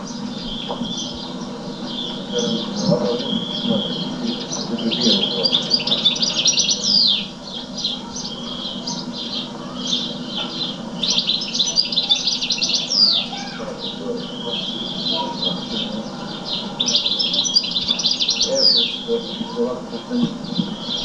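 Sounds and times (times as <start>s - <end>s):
songbird warbling and chirping: 0.0s - 21.0s.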